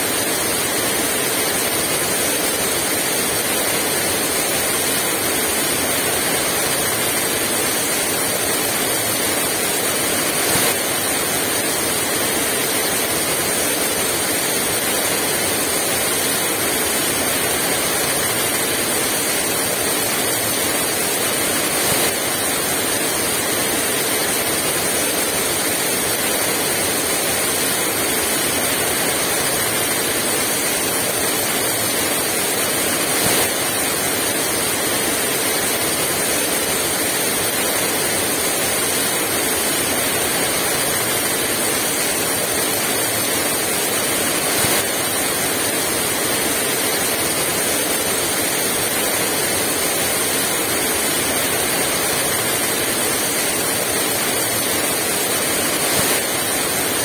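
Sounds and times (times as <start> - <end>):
heavy rain pouring: 0.3 - 57.0.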